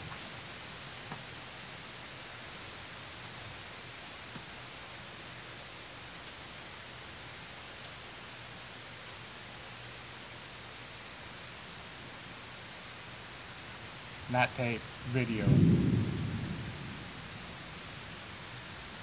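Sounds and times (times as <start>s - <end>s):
rain on trees and ground: 0.0s - 19.0s.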